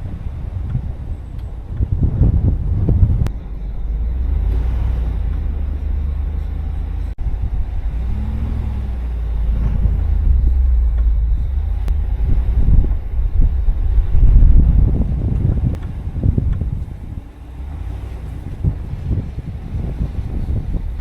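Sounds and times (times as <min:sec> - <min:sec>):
vehicle road rumble: 0:00.0 - 0:21.0.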